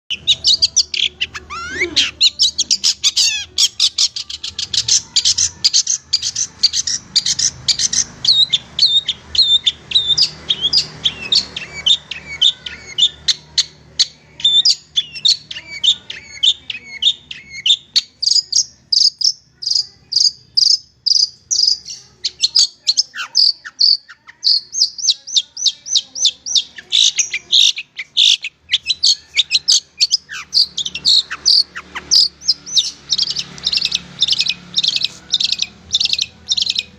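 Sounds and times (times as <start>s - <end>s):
bird chattering song: 0.0s - 36.9s.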